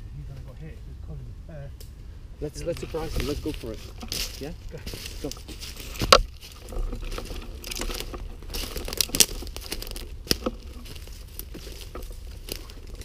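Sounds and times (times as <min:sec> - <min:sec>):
rustling through dry undergrowth: 0:02.0 - 0:13.0.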